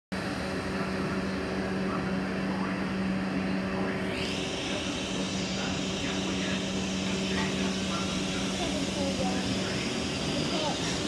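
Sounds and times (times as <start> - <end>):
train electrical hum: 0.2 - 11.0
train whine rising in pitch: 0.2 - 11.0.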